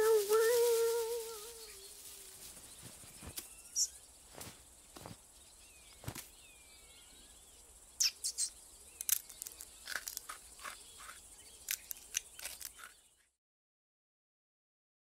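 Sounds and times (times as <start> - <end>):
insects and crickets hissing: 0.0 - 13.3
faint bird chirps: 0.0 - 13.4.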